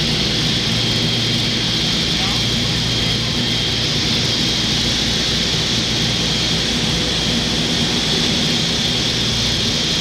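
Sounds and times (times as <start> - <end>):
aircraft propeller engines droning: 0.0 - 10.0.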